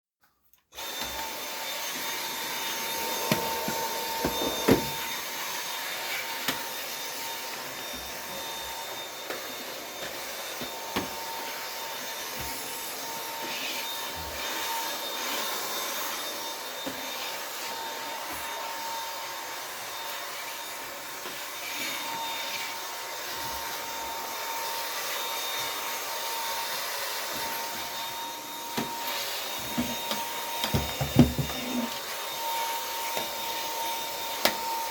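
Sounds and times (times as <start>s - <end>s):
vacuum cleaner whine: 0.6s - 34.9s.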